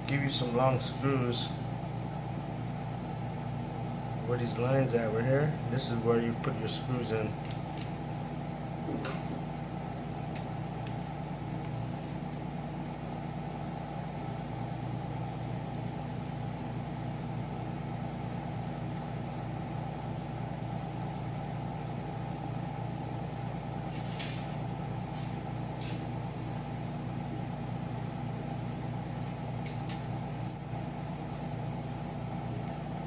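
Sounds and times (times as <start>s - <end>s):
air conditioner humming: 0.0s - 33.0s.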